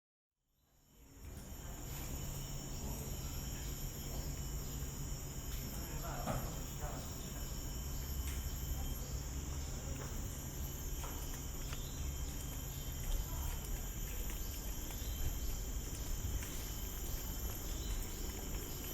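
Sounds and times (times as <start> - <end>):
insects droning: 0.6 - 18.9.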